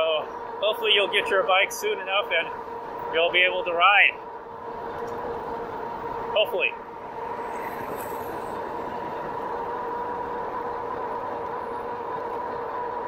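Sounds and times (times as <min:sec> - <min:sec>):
electric bike motor whine: 0:00.0 - 0:13.0
wind and tyre noise: 0:00.0 - 0:13.0.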